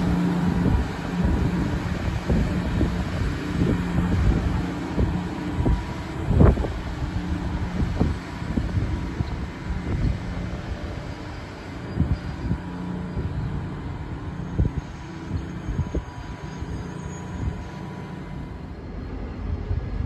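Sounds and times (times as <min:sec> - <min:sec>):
low rumble: 0:00.0 - 0:20.0
train electrical hum: 0:00.0 - 0:20.0.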